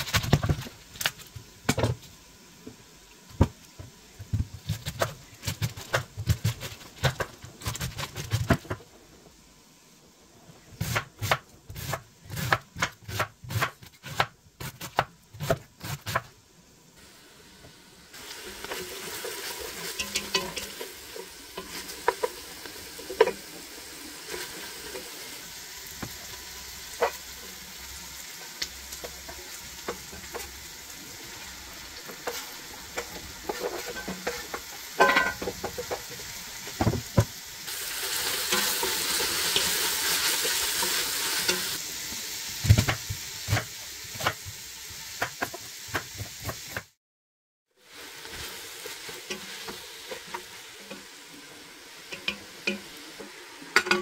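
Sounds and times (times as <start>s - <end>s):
frying sizzle: 0.0s - 47.0s, 47.7s - 54.0s.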